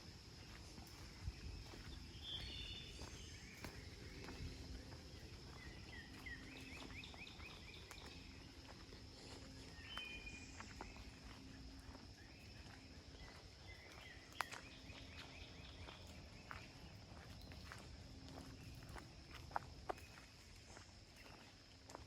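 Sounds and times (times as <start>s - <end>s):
footsteps on trail: 0.0s - 22.0s
high drone of insects: 0.0s - 22.0s
birds chirping: 0.4s - 19.0s.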